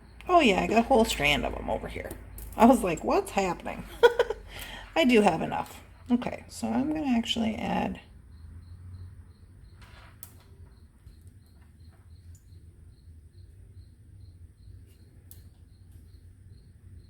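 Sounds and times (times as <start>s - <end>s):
cricket chirping: 0.0s - 17.0s
low steady hum: 0.0s - 17.0s.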